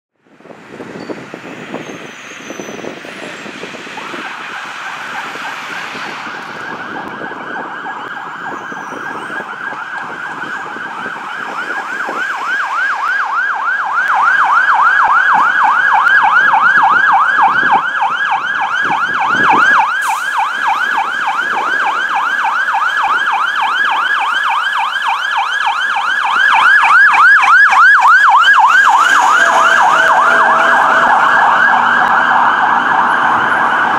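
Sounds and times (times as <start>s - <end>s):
fire truck siren yelping: 0.4s - 33.9s.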